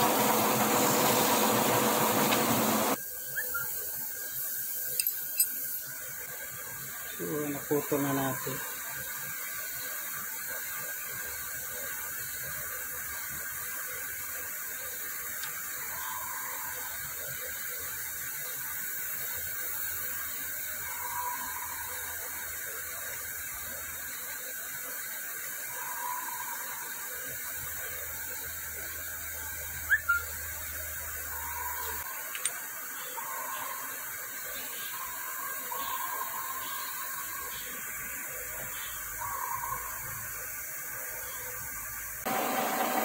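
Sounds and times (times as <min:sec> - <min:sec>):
steady background hiss: 0:01.5 - 0:42.3.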